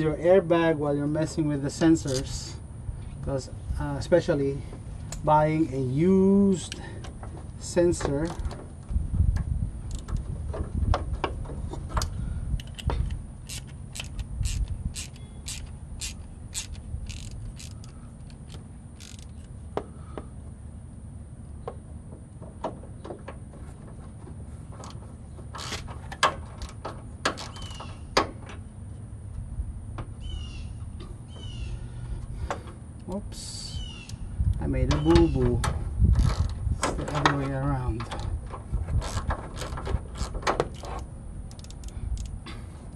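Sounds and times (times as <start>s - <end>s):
steady low rumble: 0.0s - 27.3s, 27.9s - 42.9s.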